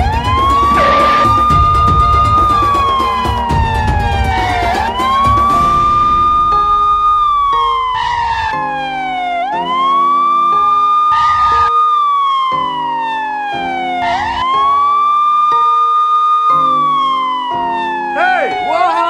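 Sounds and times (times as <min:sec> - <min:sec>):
light background music: 0:00.0 - 0:19.0
siren wailing: 0:00.0 - 0:19.0.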